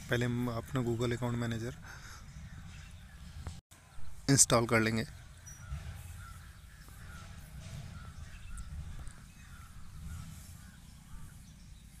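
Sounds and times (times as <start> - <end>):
low steady rumble: 0.0 - 4.2, 4.8 - 12.0
distant birds calling: 0.0 - 12.0.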